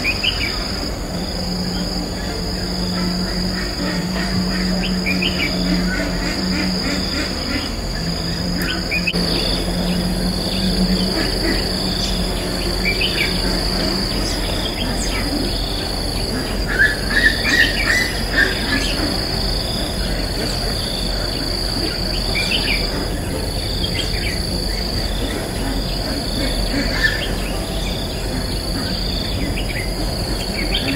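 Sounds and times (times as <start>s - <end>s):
birds chirping: 0.0s - 30.9s
high insect drone: 0.0s - 30.9s
low hum: 0.0s - 30.9s.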